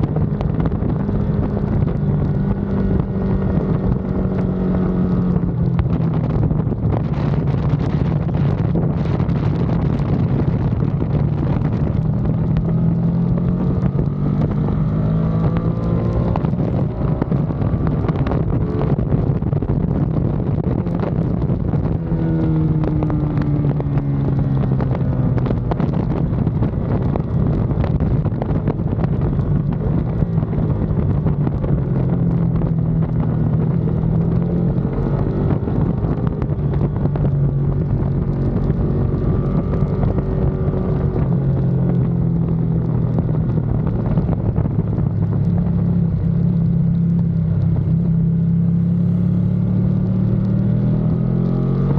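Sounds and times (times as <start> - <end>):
motorcycle engine revving: 0.0 - 51.9
wind rushing over microphone: 0.0 - 51.9.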